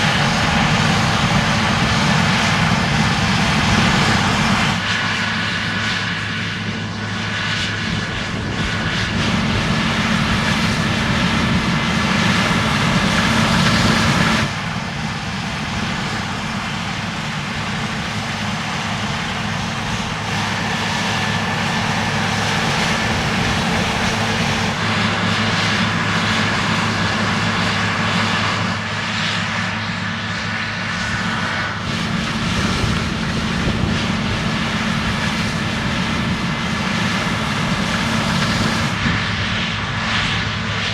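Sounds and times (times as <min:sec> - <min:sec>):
combine harvester engine drone: 0:00.0 - 0:40.9
threshing machinery whine: 0:00.0 - 0:40.9.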